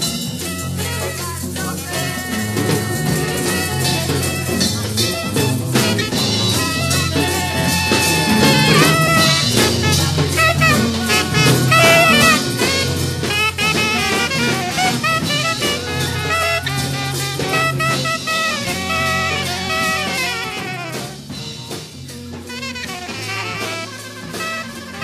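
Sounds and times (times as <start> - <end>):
bass: 0.0 - 25.0
drums: 0.0 - 25.0
wavering jazz horn lines: 0.0 - 25.0.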